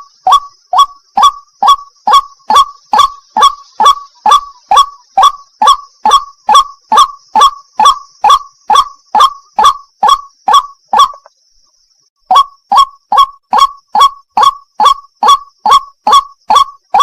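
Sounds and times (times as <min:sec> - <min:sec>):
waterhen calling: 0:00.0 - 0:11.3, 0:12.3 - 0:17.0.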